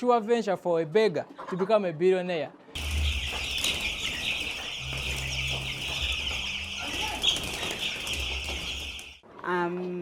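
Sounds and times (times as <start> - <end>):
chicks peeping: 1.2 - 9.2.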